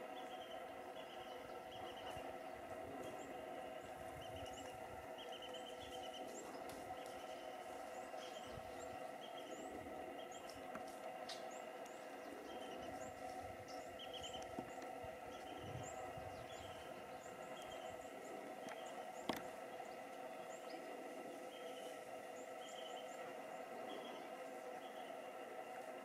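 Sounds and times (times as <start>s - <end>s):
steady drone: 0.0s - 26.0s.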